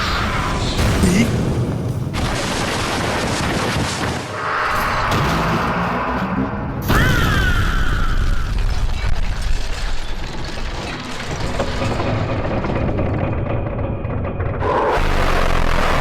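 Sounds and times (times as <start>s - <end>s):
mechanical clanking and rumbling: 0.6s - 16.0s.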